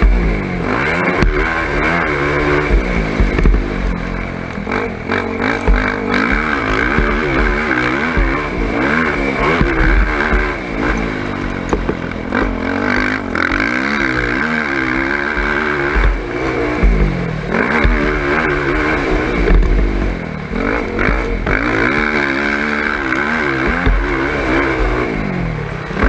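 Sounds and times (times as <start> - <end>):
atv engine revving: 0.0 - 26.0
low thuds and clatter: 0.0 - 26.0.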